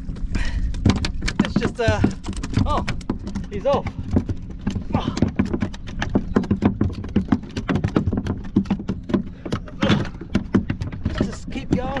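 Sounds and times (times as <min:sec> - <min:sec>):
waves slapping against kayak hull: 0:00.0 - 0:12.0.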